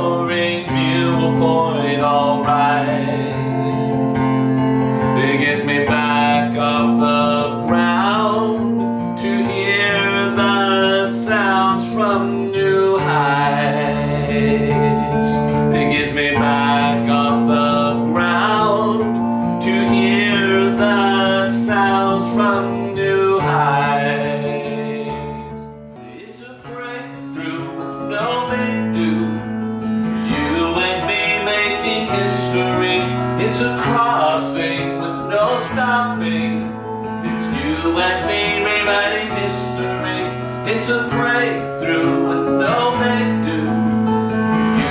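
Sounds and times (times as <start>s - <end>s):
acoustic guitar strummed and picked: 0.0s - 44.9s
person singing: 0.0s - 44.9s.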